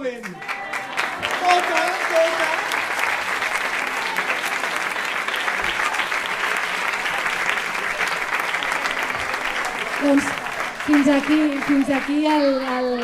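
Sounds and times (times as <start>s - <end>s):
many hands clapping: 0.0s - 13.0s.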